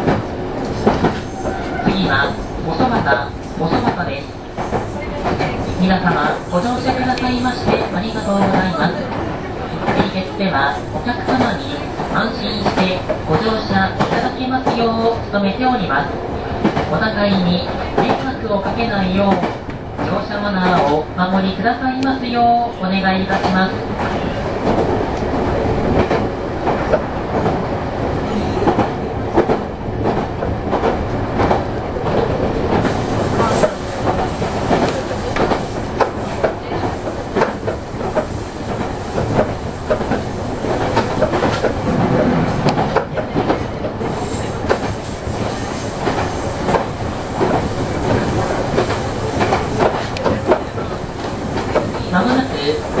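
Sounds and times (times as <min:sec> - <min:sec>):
train running rumble: 0:00.0 - 0:53.0.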